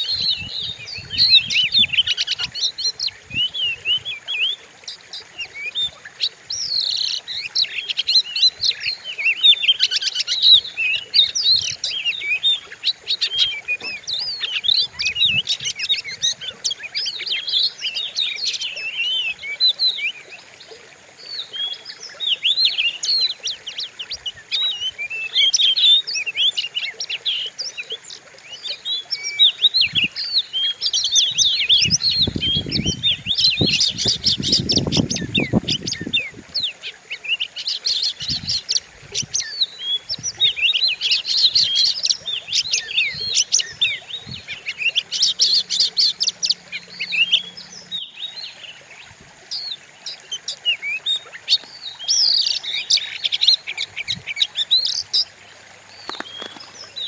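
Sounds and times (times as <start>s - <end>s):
bird singing fast chirps: 0.0s - 20.4s, 21.2s - 57.0s.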